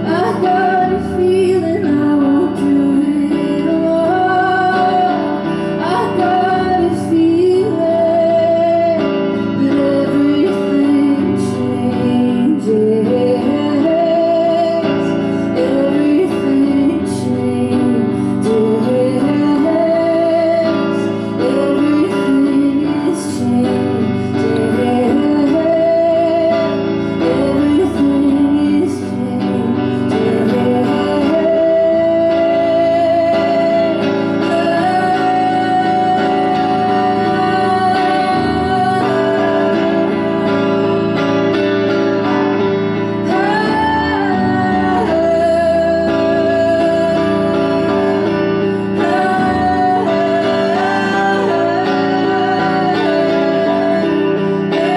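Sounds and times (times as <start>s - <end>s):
guitar accompaniment: 0.0s - 54.9s.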